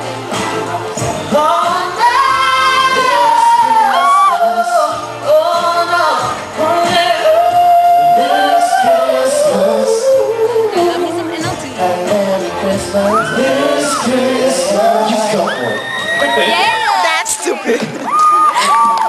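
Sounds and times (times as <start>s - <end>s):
pop vocal group singing: 0.0s - 16.9s
backing music: 0.0s - 19.0s.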